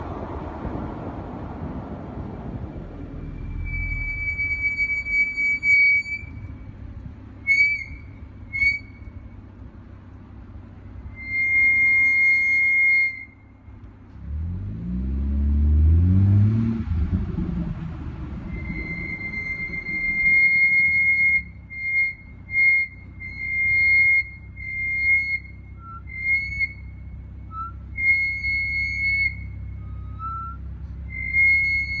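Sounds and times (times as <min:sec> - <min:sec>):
brakes squealing: 0:00.0 - 0:32.0
low engine sound: 0:00.0 - 0:32.0.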